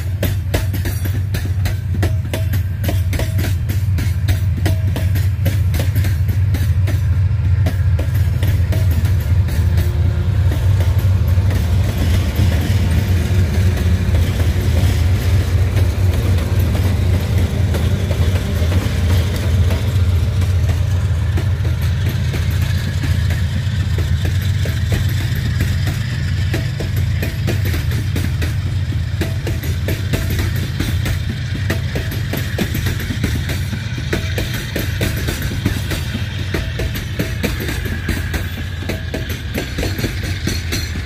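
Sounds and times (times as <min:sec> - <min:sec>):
diesel locomotives rumbling: 0:00.0 - 0:41.0.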